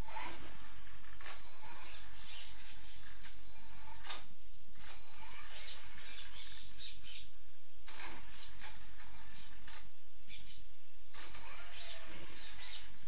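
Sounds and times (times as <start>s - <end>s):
rc car motor whining: 0.0s - 7.2s, 7.9s - 13.0s.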